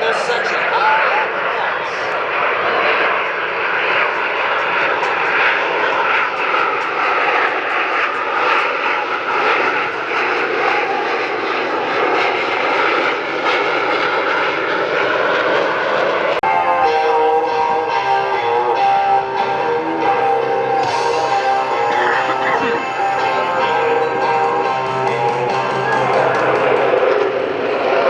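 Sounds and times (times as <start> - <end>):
jet engine whine: 0.0 - 28.0
jet engines roaring: 0.0 - 28.0.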